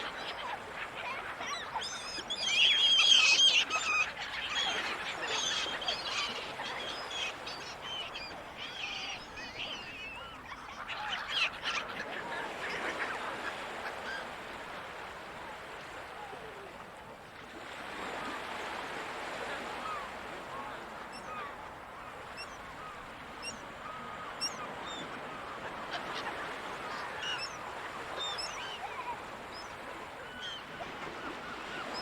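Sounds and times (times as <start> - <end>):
seagulls calling: 0.0 - 16.7, 17.7 - 32.0.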